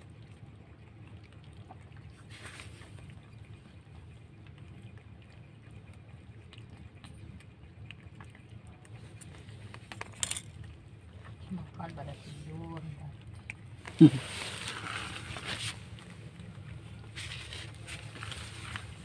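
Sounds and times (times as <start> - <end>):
cats crunching dry kibble: 0.0 - 19.0
low steady hum: 0.0 - 19.0.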